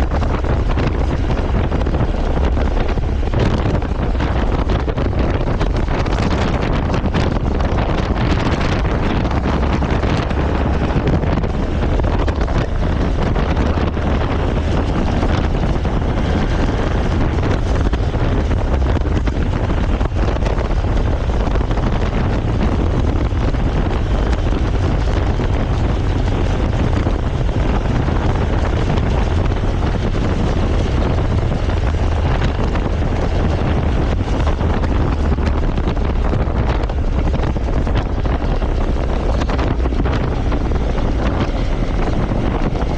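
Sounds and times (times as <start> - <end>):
motorcycle engine running: 0.0 - 42.9
road noise: 0.0 - 42.9
wind buffeting microphone: 0.0 - 42.9.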